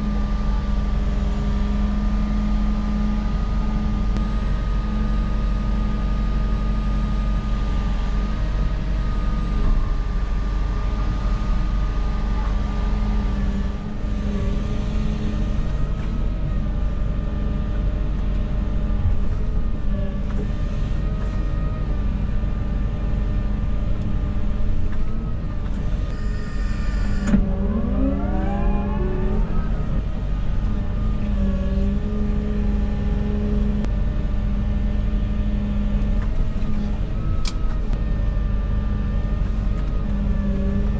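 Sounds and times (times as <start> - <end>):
construction machine engine whining: 0.0 - 40.9.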